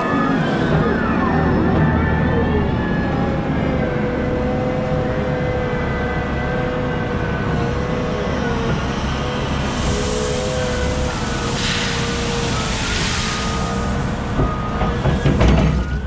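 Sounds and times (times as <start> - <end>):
diesel machinery rumbling: 0.0 - 16.0.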